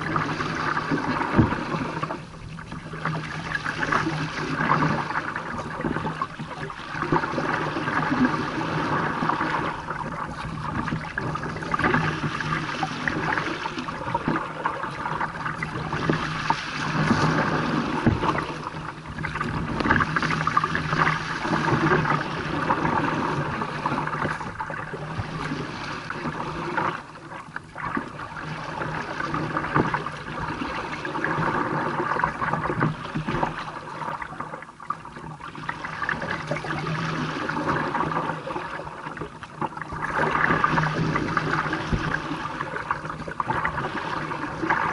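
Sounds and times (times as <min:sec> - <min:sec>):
water slapping against kayak hull: 0:00.0 - 0:44.9.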